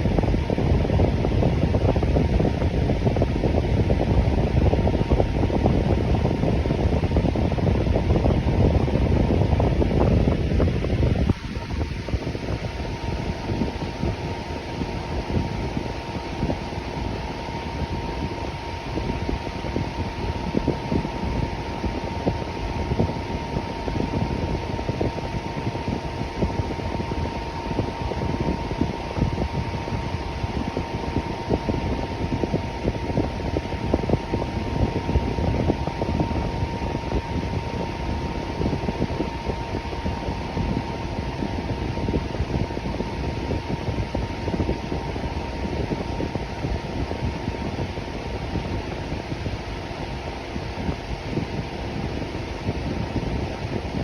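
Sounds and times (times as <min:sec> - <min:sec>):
electric fan running: 0:00.0 - 0:54.0
faint steady whine: 0:00.0 - 0:54.0.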